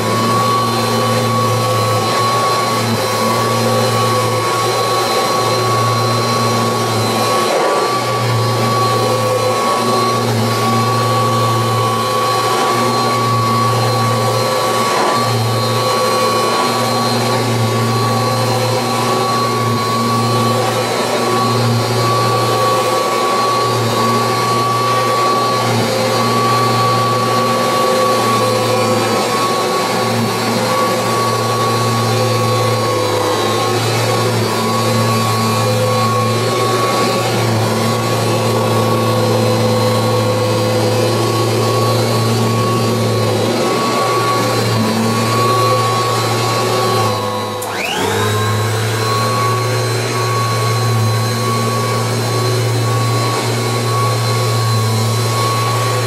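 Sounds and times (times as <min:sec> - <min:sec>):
upright vacuum cleaner running: 0:00.0 - 0:56.0.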